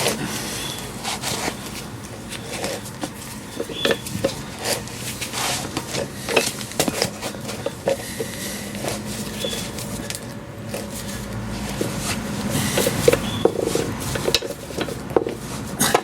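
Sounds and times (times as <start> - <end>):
metal clicks knocks and scrapes: 1.1 - 16.0.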